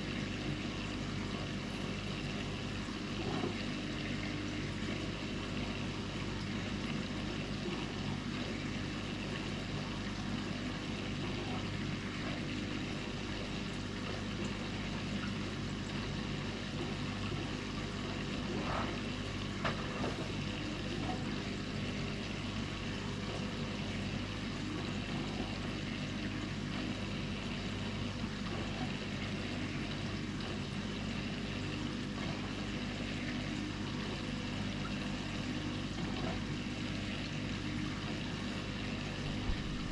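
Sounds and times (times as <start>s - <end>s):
aquarium filter humming: 0.0s - 39.9s
water trickling: 0.0s - 39.9s.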